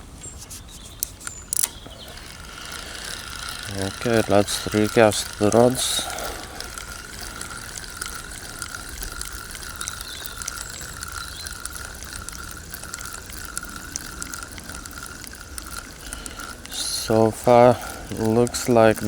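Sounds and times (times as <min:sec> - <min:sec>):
fishing reel whirring: 0:00.9 - 0:19.0.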